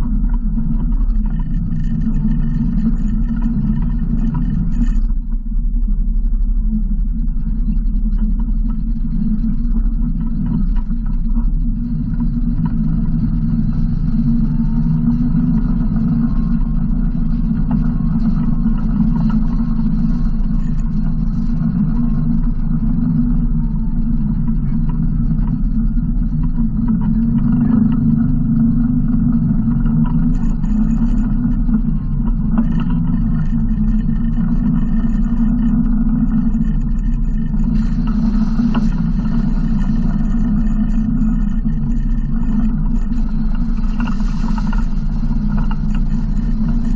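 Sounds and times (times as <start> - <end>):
vehicle engine low drone: 0.0 - 46.9.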